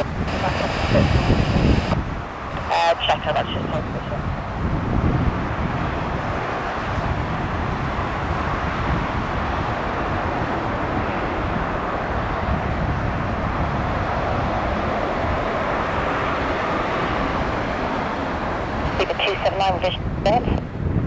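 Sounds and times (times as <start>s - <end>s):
jet engines rumbling on climb: 0.0s - 21.0s.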